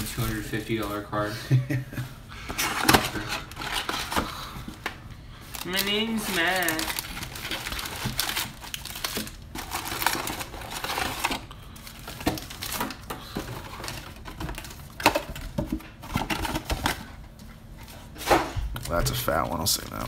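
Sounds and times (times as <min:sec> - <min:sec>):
card packs crinkling: 0:00.0 - 0:01.0, 0:02.5 - 0:17.3, 0:18.8 - 0:20.0.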